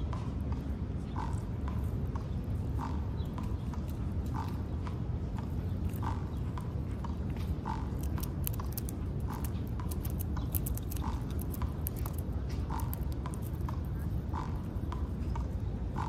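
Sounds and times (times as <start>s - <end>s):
squirrel crunching a peanut shell: 1.2s - 16.0s.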